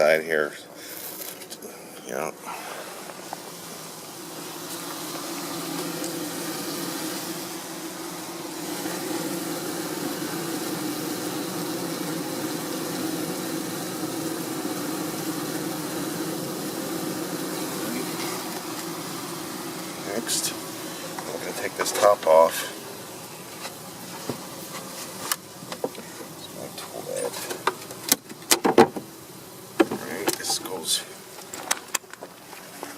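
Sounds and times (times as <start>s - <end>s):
honey bees buzzing: 0.0s - 32.9s.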